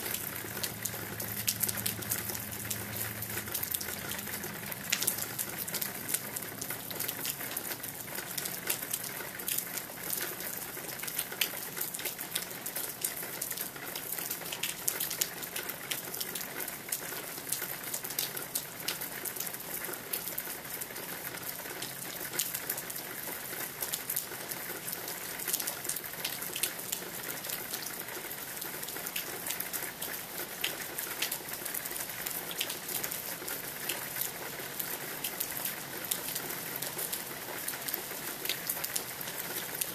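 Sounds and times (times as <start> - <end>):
raindrops ticking on surface: 0.0 - 39.9
steady rain: 0.0 - 39.9.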